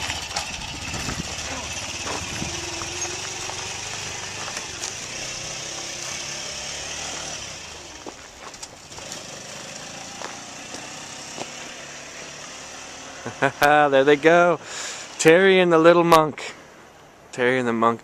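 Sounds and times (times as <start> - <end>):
motor scooter engine: 0.0 - 15.2.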